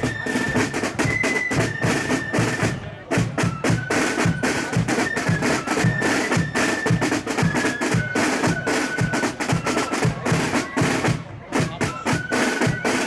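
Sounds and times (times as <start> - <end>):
flutes playing march melody: 0.0 - 13.0
snare drums rattling: 0.0 - 13.0.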